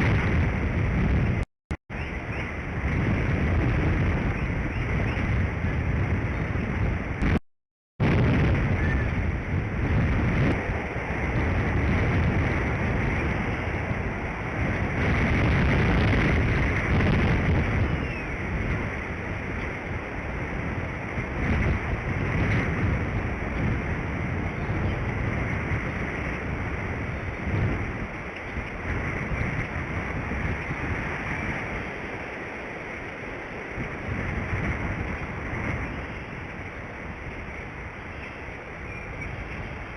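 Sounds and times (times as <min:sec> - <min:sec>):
wind buffeting microphone: 0:00.0 - 0:07.4, 0:08.0 - 0:39.9.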